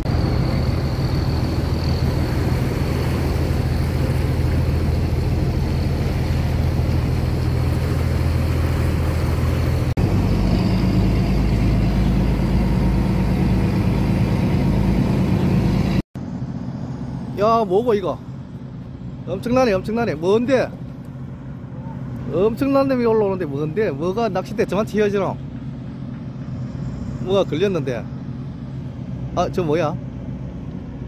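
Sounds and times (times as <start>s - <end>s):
boat engine humming: 0.0s - 31.0s
water rushing around hull: 0.0s - 31.0s.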